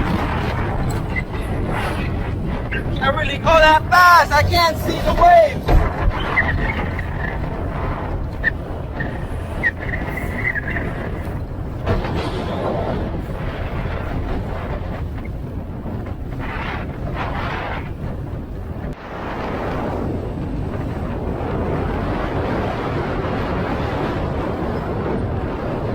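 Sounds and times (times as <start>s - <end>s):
speedboat engine rumble: 0.0s - 25.9s
wind and water rushing: 0.0s - 25.9s.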